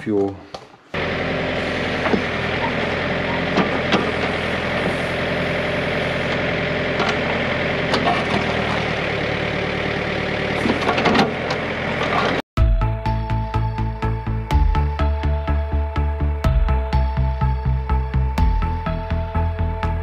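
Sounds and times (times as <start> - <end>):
diesel engine running: 0.9 - 20.0.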